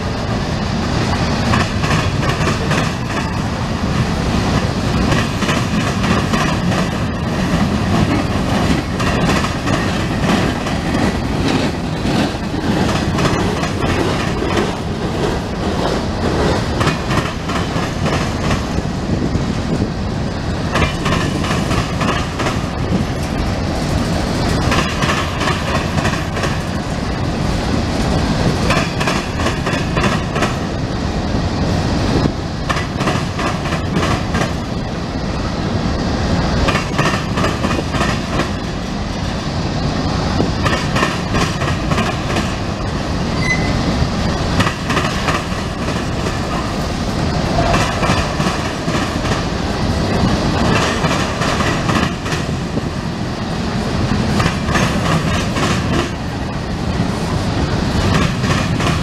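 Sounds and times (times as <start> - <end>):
wheels clacking over rail joints: 0.0 - 19.9, 20.6 - 30.7, 32.1 - 34.7, 36.4 - 39.2, 40.1 - 59.0
steel wheels rumbling on rail: 0.0 - 59.0.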